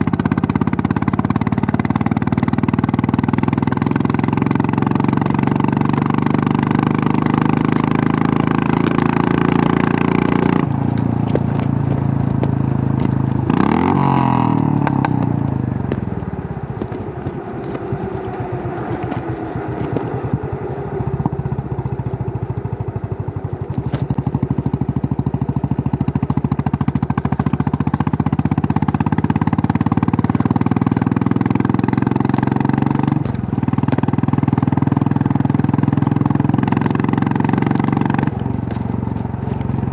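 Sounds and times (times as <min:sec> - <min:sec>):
motorcycle engine thumping: 0:00.0 - 0:39.9.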